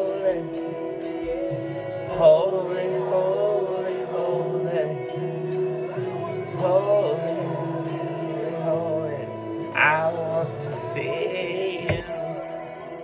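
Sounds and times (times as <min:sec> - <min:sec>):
electric guitar chords: 0:00.0 - 0:13.0
man singing: 0:00.0 - 0:13.0.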